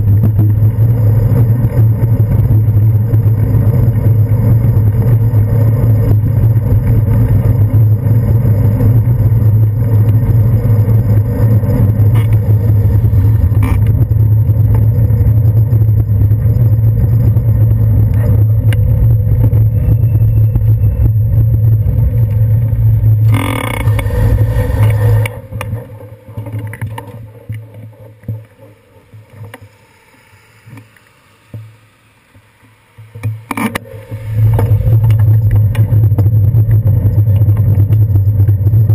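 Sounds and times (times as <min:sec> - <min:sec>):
wind and road rumble: 0:00.0 - 0:30.0, 0:32.3 - 0:38.9.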